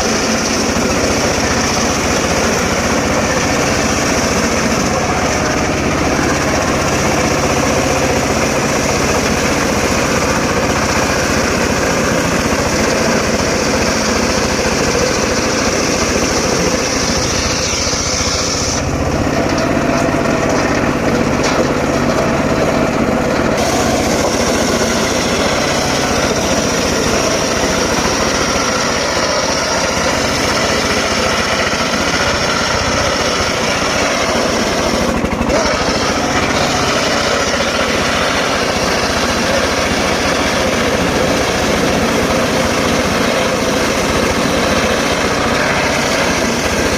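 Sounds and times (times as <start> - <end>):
circular sawmill running: 0.0 - 46.9
high saw blade whine: 0.0 - 46.9.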